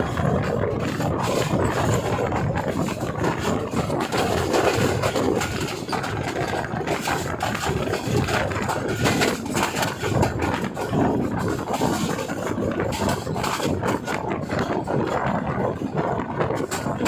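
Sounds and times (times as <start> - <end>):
train rolling rumble: 0.0 - 17.0
wheels clicking on track: 0.0 - 17.0.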